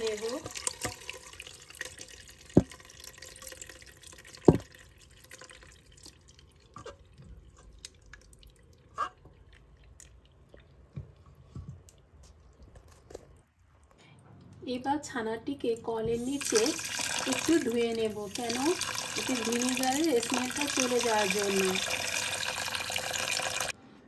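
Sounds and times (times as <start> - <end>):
liquid trickling through strainer: 0.0 - 12.2, 16.2 - 23.8.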